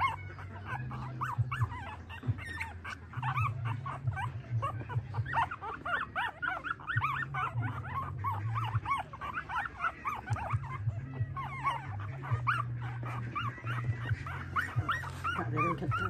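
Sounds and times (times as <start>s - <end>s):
puppies squeaking and whimpering: 0.0s - 16.0s.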